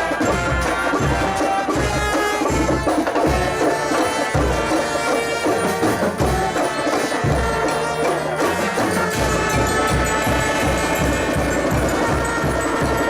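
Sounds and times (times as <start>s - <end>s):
horns holding sustained notes: 0.0s - 13.0s.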